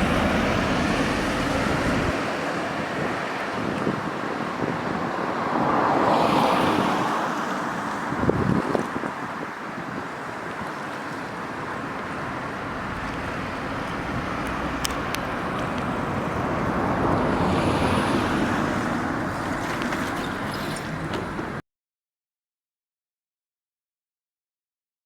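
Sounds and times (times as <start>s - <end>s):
rushing outdoor noise: 0.0s - 21.6s.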